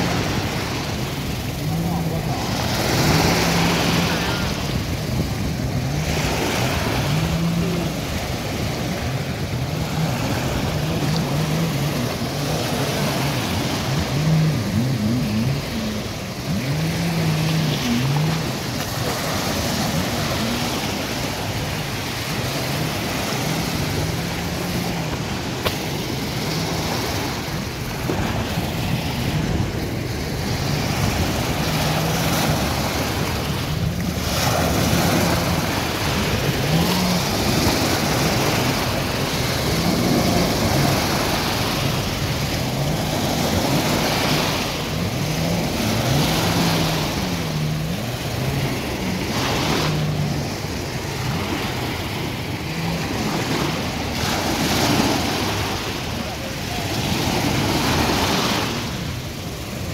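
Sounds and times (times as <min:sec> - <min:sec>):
jet ski engine revving: 0:00.0 - 0:59.9
waves washing: 0:00.0 - 0:59.9.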